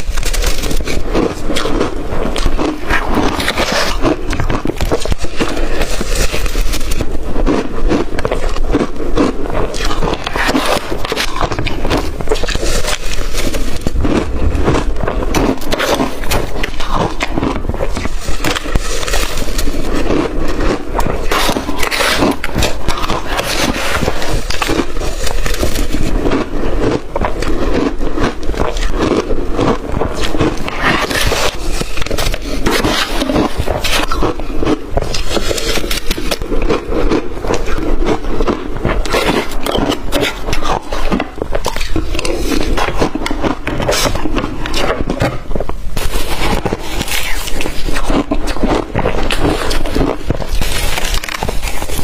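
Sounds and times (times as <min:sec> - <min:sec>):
chewing crushed ice: 0:00.0 - 0:52.0.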